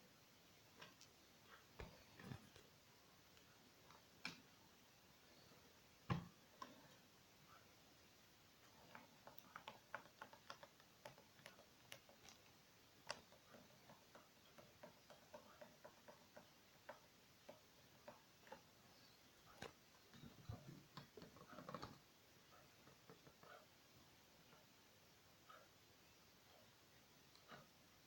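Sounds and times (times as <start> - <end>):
faint clicks and light taps: 0.7 - 4.6, 5.3 - 7.7, 8.6 - 24.8, 25.4 - 28.0.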